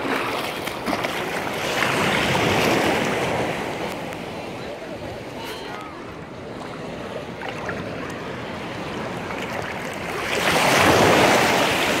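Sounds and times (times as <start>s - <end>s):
small waves lapping at shore: 0.0s - 12.0s.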